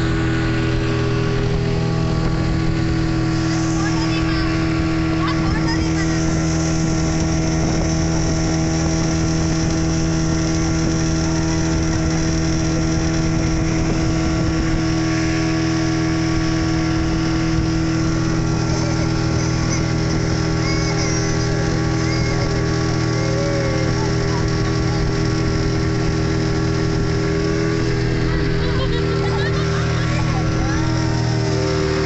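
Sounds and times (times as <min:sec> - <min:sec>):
diesel boat engine droning: 0:00.0 - 0:32.0.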